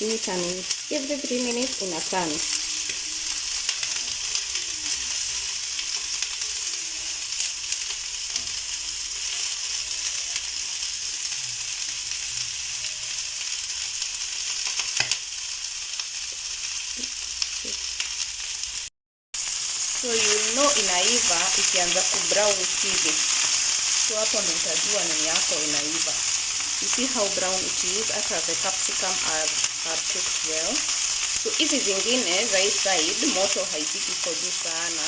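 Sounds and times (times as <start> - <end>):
skewers sizzling in oil: 0.0 - 35.0.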